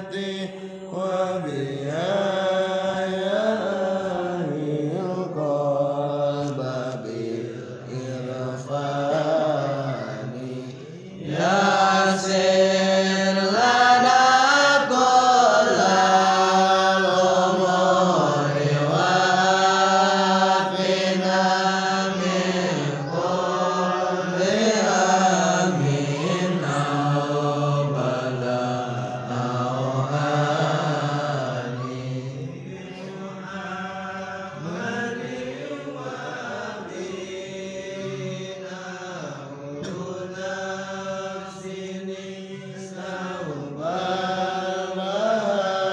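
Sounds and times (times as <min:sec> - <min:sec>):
men chanting a devotional song: 0:00.0 - 0:45.9.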